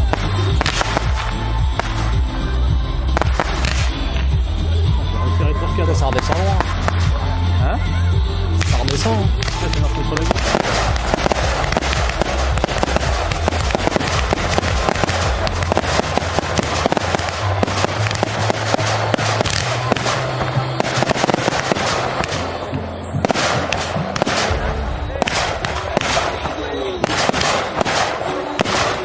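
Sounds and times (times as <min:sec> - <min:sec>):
fireworks bangs and crackles: 0:00.0 - 0:07.9, 0:08.5 - 0:29.0.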